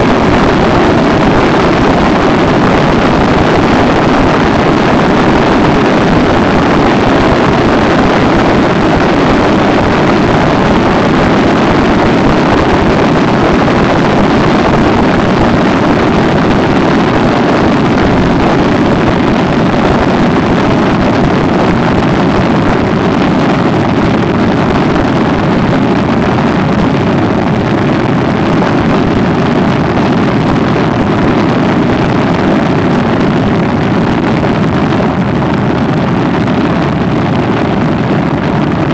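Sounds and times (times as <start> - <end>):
wind rush over microphone: 0.0 - 38.9.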